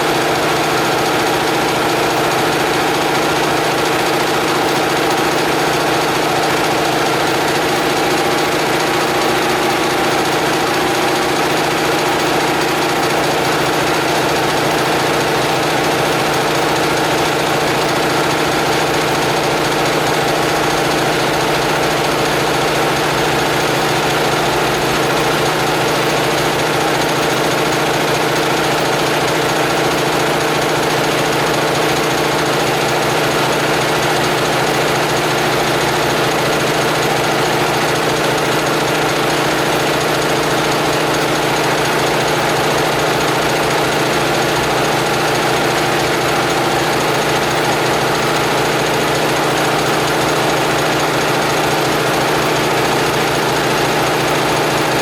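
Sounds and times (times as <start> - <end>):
air compressor humming and pulsing: 0.0 - 55.0.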